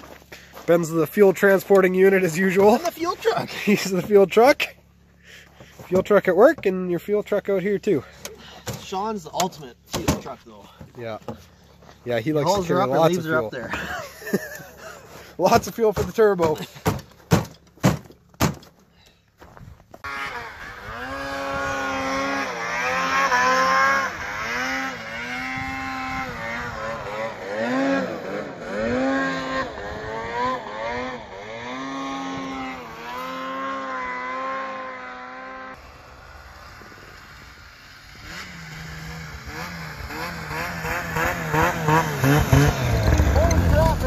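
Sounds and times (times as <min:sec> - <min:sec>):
snowmobile engine revving: 0:00.7 - 0:10.6, 0:12.3 - 0:16.7, 0:20.0 - 0:44.0.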